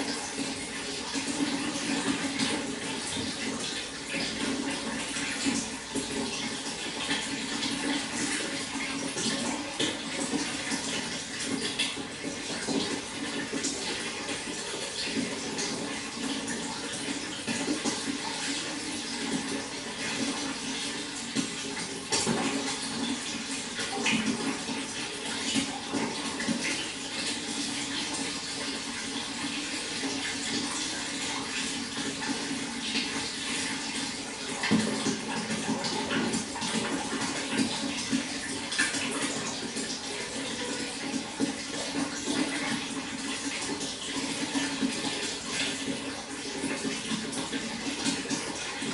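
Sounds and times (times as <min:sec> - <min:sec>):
running water splashing: 0:00.0 - 0:48.9.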